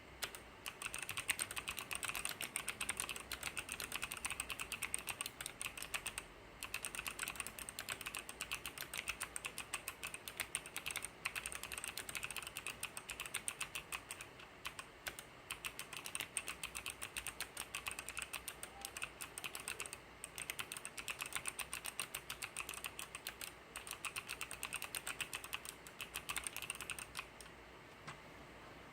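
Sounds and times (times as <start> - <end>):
typing on mechanical keyboard: 0.2 - 27.5.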